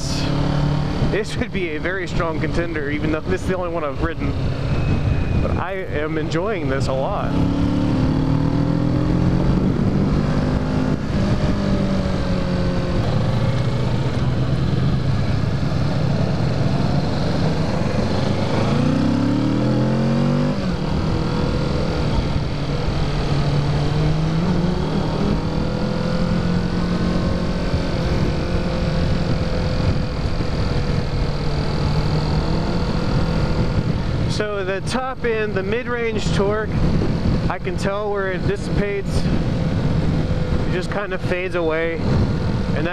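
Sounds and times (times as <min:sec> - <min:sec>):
motorcycle engine running: 0:00.0 - 0:42.9
wind rushing on microphone: 0:00.0 - 0:42.9.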